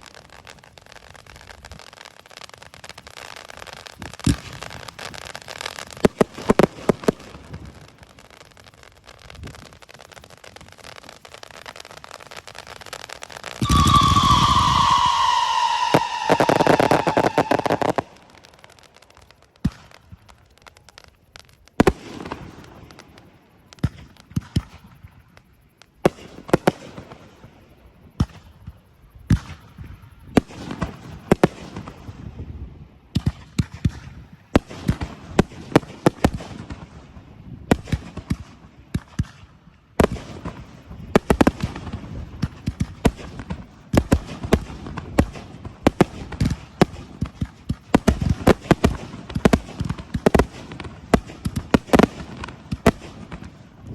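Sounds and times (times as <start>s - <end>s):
fireworks bursting in sharp bangs: 0.0s - 28.6s, 29.3s - 32.4s, 33.1s - 53.9s.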